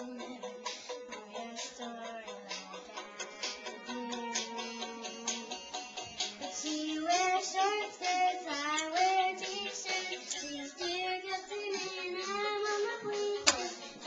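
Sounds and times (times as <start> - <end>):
girl singing: 0.0 - 5.7, 6.5 - 13.8.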